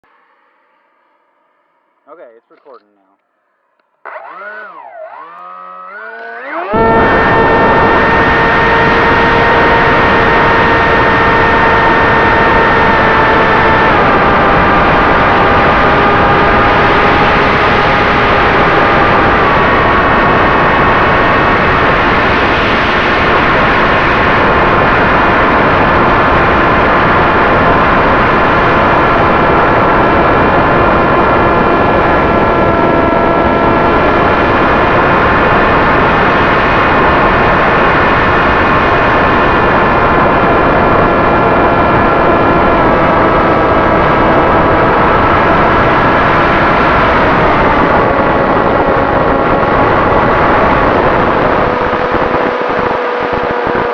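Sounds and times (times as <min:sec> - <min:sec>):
electric motor and propeller whine: 0:03.8 - 0:53.9
wind rush: 0:06.8 - 0:53.9.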